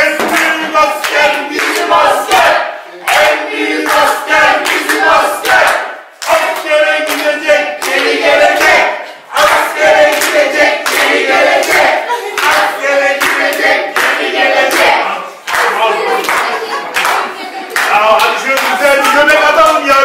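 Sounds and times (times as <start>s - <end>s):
group of people singing: 0.0s - 20.0s
rhythmic clapping: 0.0s - 20.0s.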